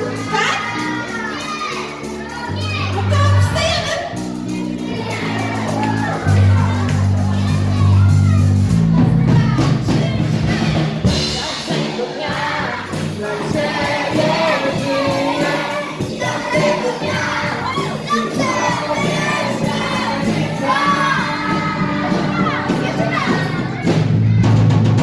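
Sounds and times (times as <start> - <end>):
children singing along: 0.0 - 25.0
live band playing: 0.0 - 25.0.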